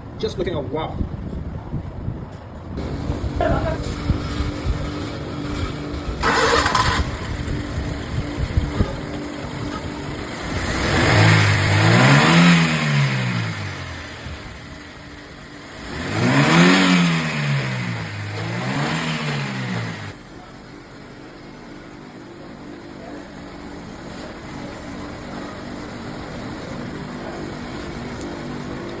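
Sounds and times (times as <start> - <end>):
car engine revving and idling: 2.8 - 29.0.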